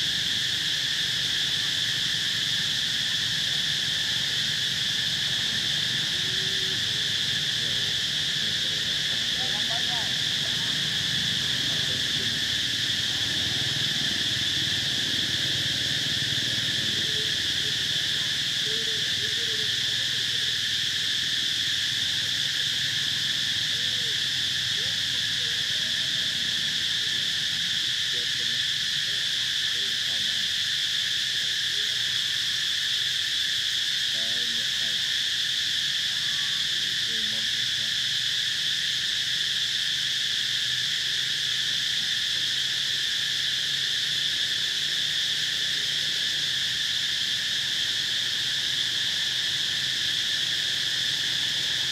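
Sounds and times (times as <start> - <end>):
insect chorus drone: 0.0 - 51.9.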